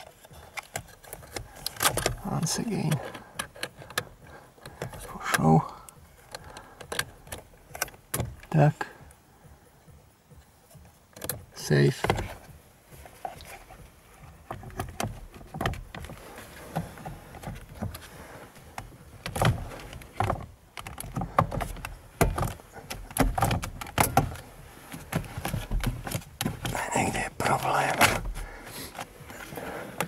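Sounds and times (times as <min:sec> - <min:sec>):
parts clicking and knocking: 0:00.0 - 0:09.2, 0:10.2 - 0:30.0.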